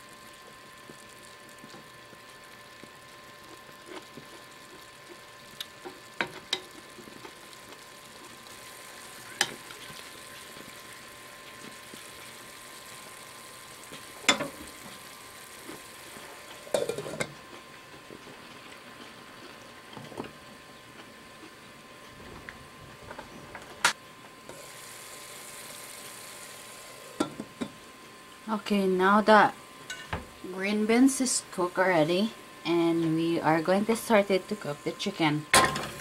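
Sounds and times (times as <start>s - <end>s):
beans sizzling in a pan: 0.0s - 22.1s, 23.8s - 36.0s.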